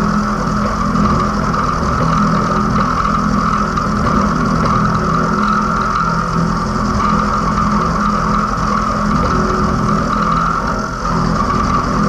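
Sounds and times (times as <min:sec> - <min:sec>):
high whine of metal cutting: 0:00.0 - 0:12.0
milling machine hum: 0:00.0 - 0:12.0.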